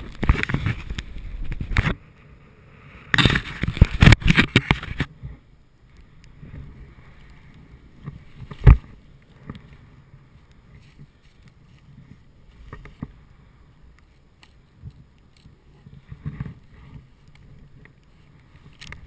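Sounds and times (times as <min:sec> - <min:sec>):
faint rustling: 0:03.1 - 0:19.0.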